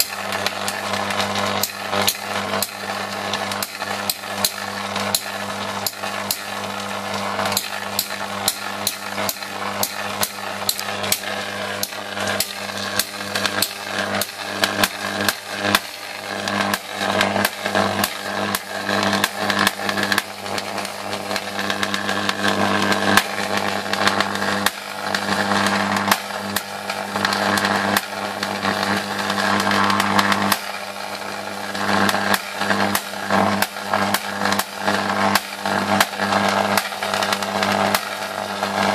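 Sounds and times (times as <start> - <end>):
electric arc crackling: 0.0 - 38.9
electrical hum: 0.0 - 38.9.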